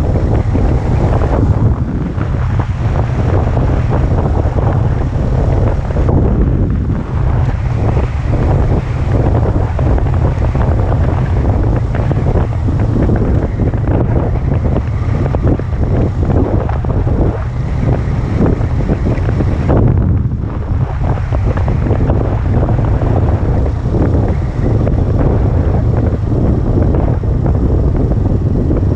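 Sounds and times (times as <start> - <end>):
road and engine noise: 0.0 - 28.9
wind buffeting microphone: 0.0 - 28.9.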